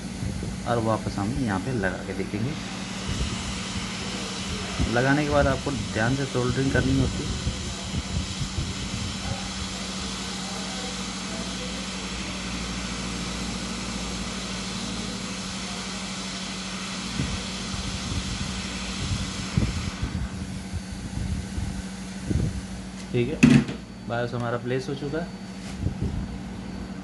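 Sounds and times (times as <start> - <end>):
hot-air station hissing: 0.0 - 27.0.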